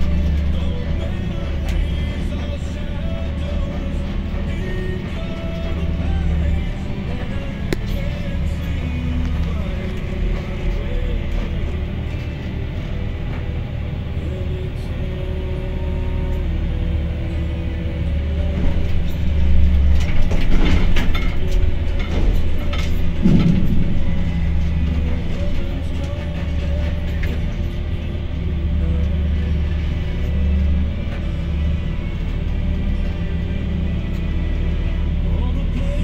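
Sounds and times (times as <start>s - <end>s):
crane machinery drone: 0.0s - 36.0s.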